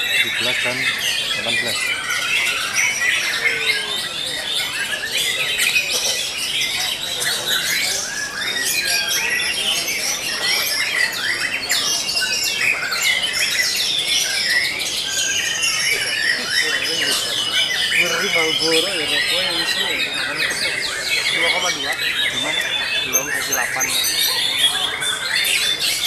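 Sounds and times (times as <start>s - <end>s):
songbirds singing in chorus: 0.0s - 26.0s.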